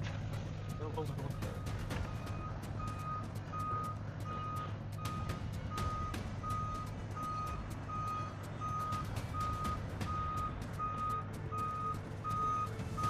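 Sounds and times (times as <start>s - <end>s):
idling engine rumble: 0.0s - 13.0s
reversing alarm beeping: 0.6s - 13.0s.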